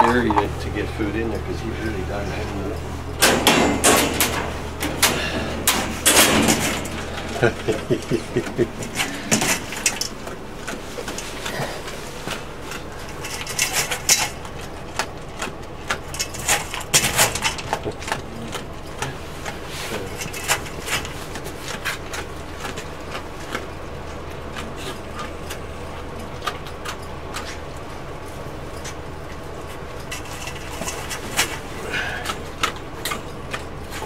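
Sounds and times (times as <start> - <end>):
dog chewing and bowl clattering: 0.0 - 34.0
steady low hum: 0.0 - 34.0.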